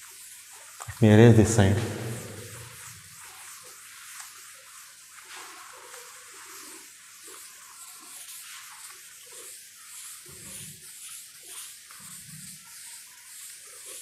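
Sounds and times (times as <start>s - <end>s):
duster rubbing on blackboard: 0.0s - 14.0s.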